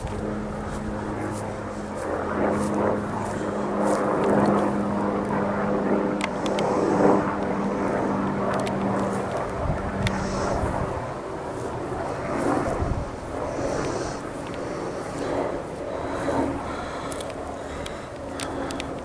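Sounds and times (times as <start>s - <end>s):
helicopter flying past: 0.0s - 19.0s.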